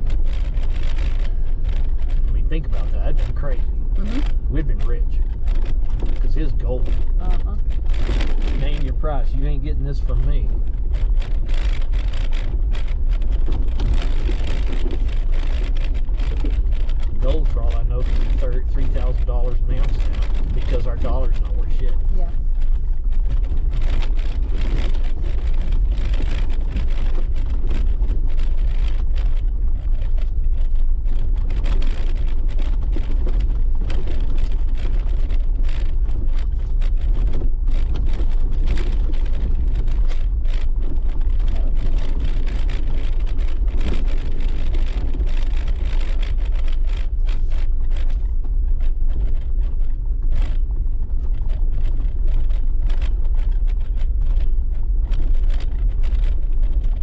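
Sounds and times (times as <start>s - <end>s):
engine and tyres rumbling: 0.0s - 57.0s
rattles and knocks from stones: 0.0s - 57.0s.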